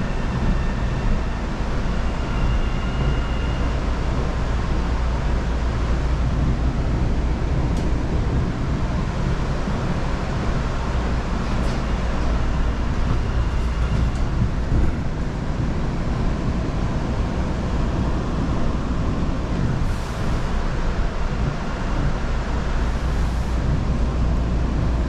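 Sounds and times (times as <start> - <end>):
subway car rumbling on track: 0.0 - 25.0.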